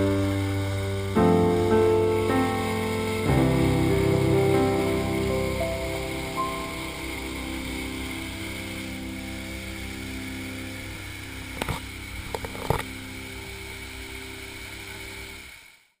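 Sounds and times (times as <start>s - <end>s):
music of sustained chords: 0.0s - 16.0s.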